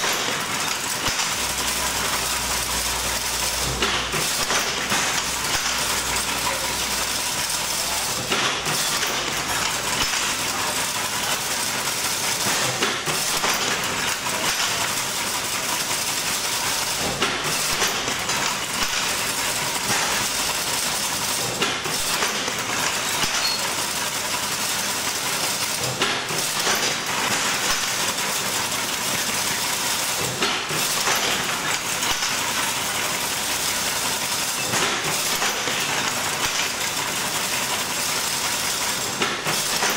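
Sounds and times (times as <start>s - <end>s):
fence weaving machine running: 0.0s - 39.9s.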